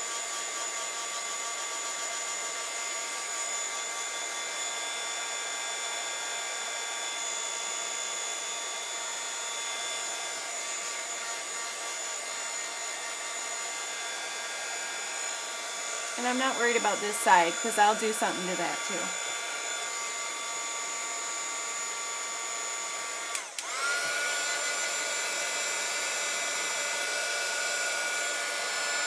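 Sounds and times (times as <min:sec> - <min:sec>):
heat gun blowing with high whine: 0:00.0 - 0:29.0.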